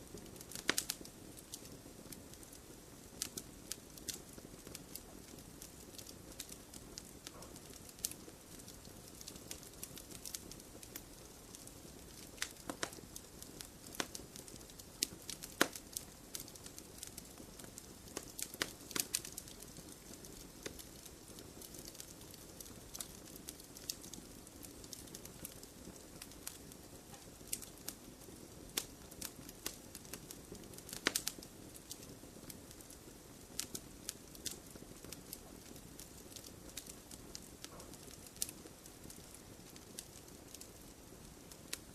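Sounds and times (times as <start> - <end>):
campfire crackling: 0.0 - 41.9
sharp pops and snaps of fire: 0.0 - 41.9.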